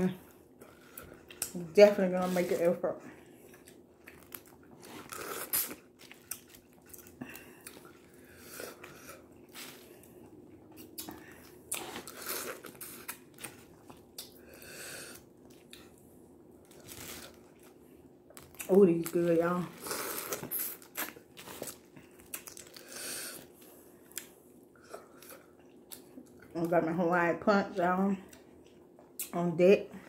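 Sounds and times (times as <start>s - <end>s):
chewing and crunching: 0.1s - 1.6s, 2.4s - 14.5s, 15.2s - 26.7s, 28.2s - 29.4s.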